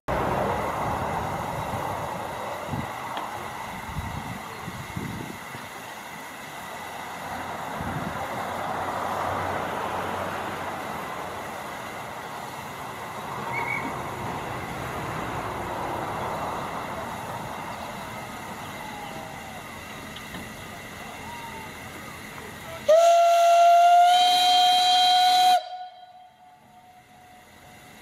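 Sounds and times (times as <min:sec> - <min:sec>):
steam locomotive hissing: 0:00.1 - 0:28.0.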